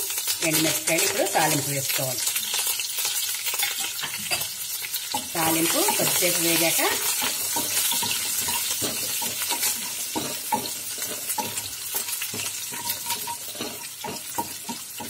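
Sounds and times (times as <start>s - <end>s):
spices sizzling in oil: 0.0s - 15.0s
spatula scraping and tapping pan: 0.1s - 15.0s.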